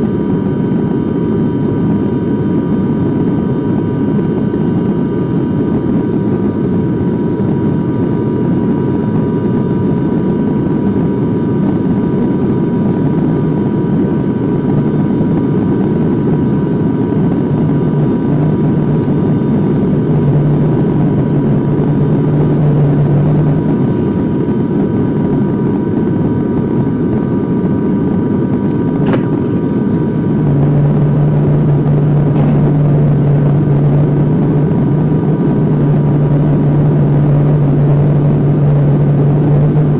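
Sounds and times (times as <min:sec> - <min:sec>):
aircraft cabin propeller drone: 0:00.0 - 0:39.9
deeper hum: 0:02.1 - 0:39.9.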